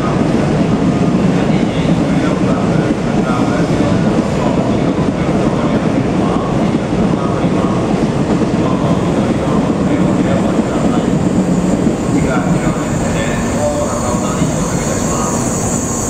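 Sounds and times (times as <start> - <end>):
train rumbling into platform: 0.0 - 16.0.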